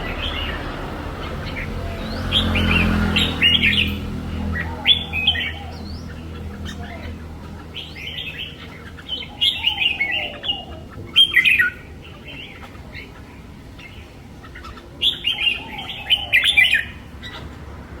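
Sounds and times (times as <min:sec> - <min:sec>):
bird chirping song: 0:00.0 - 0:18.0.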